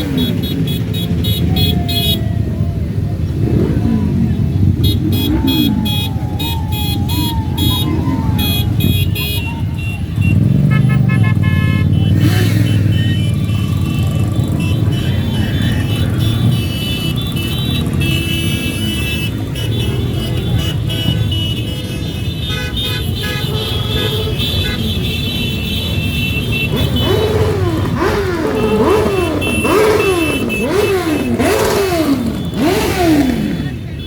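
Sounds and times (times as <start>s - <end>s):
horns sounding: 0.0s - 2.5s, 3.3s - 34.0s
motorcycle engines rumbling: 0.0s - 34.0s
motorcycle engine revving: 3.1s - 34.0s.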